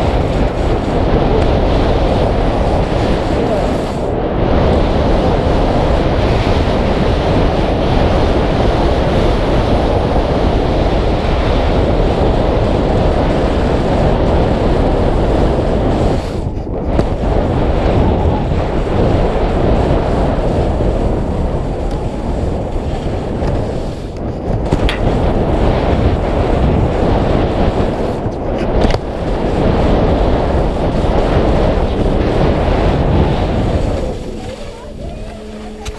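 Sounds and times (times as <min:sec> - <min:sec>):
skis scraping over snow: 0:00.0 - 0:35.9
wind buffeting microphone: 0:00.0 - 0:35.9.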